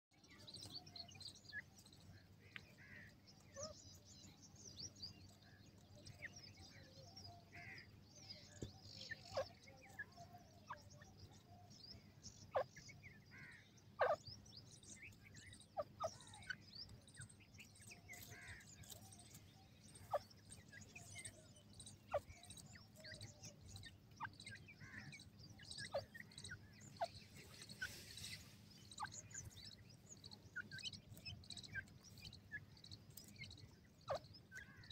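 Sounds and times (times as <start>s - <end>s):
francolins chirping: 0.1s - 34.9s.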